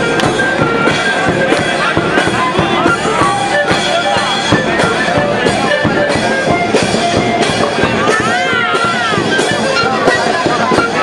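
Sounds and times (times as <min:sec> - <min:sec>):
loud music with drums: 0:00.0 - 0:11.0.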